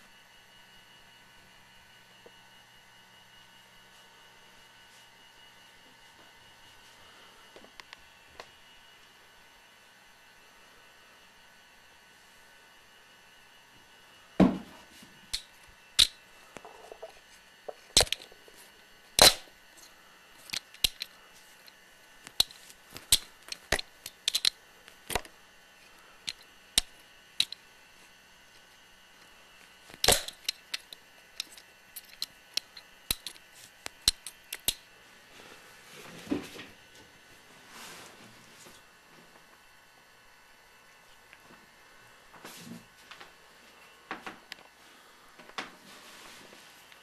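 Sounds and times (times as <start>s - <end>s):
camcorder hiss and hum: 0.0s - 47.0s.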